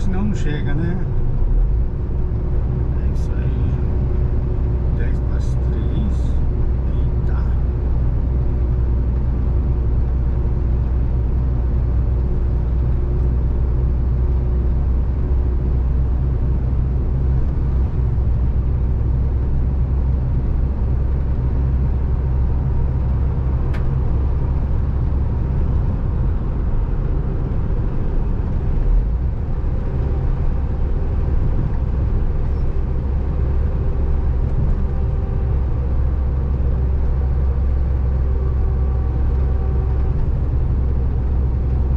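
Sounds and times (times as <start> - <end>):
truck engine and road noise: 0.0 - 41.9.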